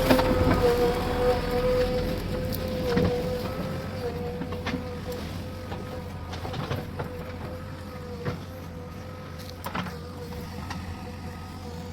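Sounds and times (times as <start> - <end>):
diesel engine running: 0.0 - 11.9
engine whine: 0.0 - 11.9.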